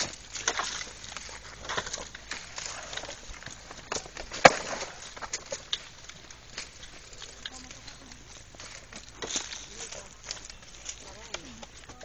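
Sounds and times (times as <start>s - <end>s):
leaves rustling: 0.0s - 12.0s
stems snipping: 0.0s - 12.0s.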